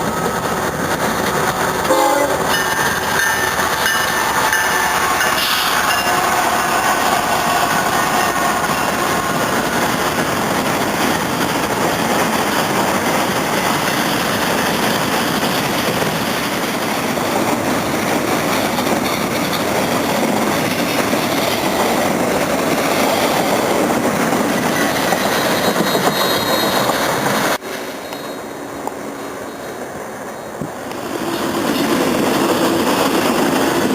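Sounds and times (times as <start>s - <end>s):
train rolling past: 0.0s - 33.9s.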